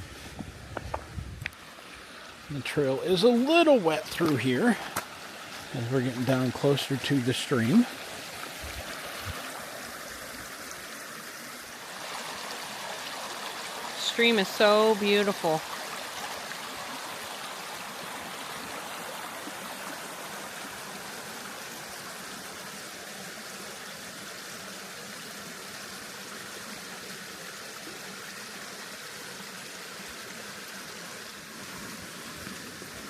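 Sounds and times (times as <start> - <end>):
stream flowing: 0.0 - 33.0.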